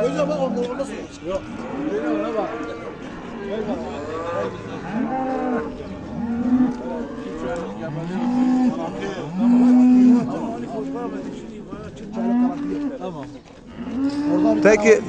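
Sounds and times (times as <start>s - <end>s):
cattle mooing: 0.0s - 11.4s, 12.1s - 13.1s, 13.7s - 15.0s.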